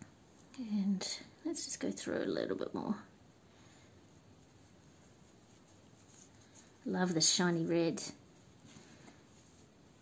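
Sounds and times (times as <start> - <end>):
yarn rustling through fabric: 1.6 - 10.0.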